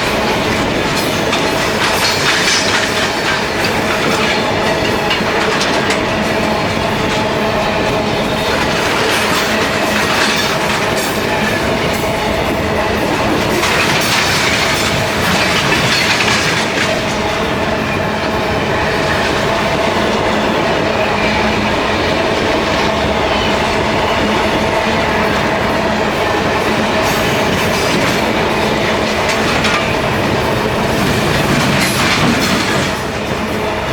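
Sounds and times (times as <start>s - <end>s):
train wheels clattering on rails: 0.0s - 33.9s.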